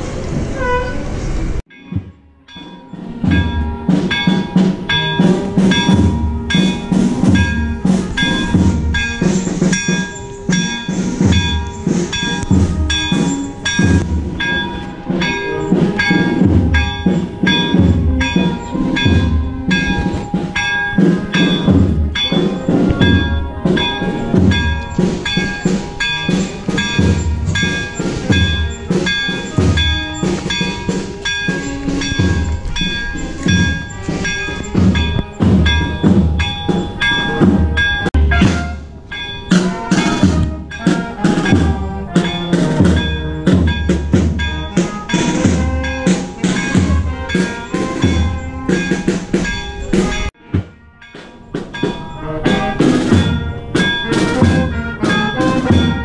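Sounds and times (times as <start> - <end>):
chapel bells ringing fast: 1.7 - 56.0
deep bell stroke: 1.7 - 56.0.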